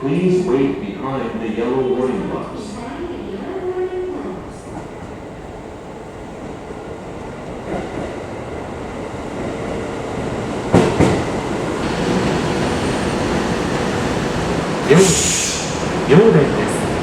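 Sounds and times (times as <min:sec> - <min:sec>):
electric train pulling in: 0:01.6 - 0:17.0.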